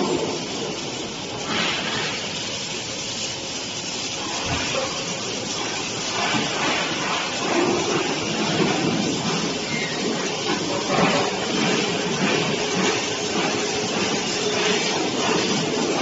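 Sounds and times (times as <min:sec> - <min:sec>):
welding arc hissing: 0:00.0 - 0:16.0.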